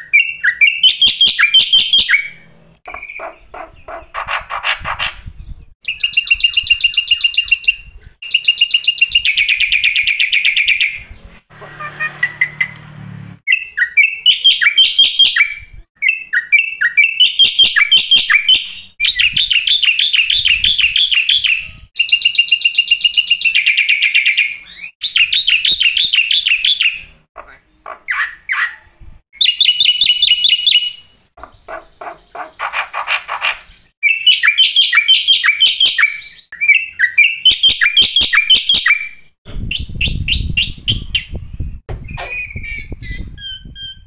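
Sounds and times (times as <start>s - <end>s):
bird chirping trills: 0.0s - 4.7s, 5.3s - 12.8s, 13.5s - 39.1s.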